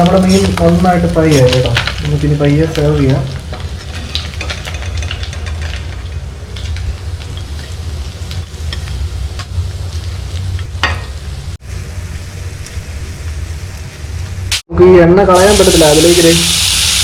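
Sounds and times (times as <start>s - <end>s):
fish sizzling in hot oil: 0.0s - 14.6s, 15.4s - 17.0s.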